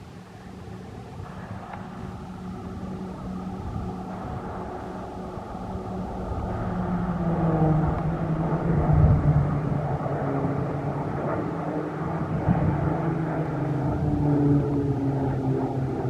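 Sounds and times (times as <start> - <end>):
propeller aircraft droning: 0.0 - 16.0.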